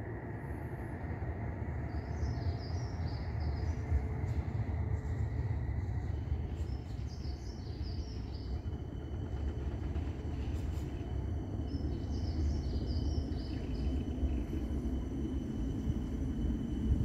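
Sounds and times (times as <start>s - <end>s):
low background rumble: 0.0s - 17.0s
songbird chirping: 1.6s - 17.0s.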